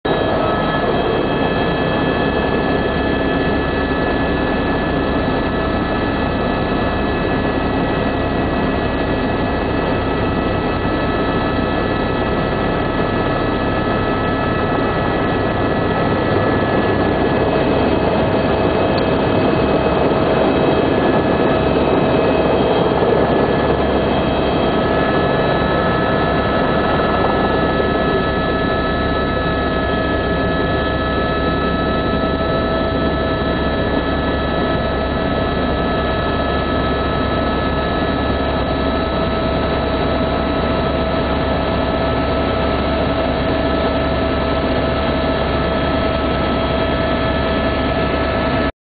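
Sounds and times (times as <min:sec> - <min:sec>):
steady whining tones: 0:00.1 - 0:47.6
helicopter engine and rotors droning: 0:00.1 - 0:48.7.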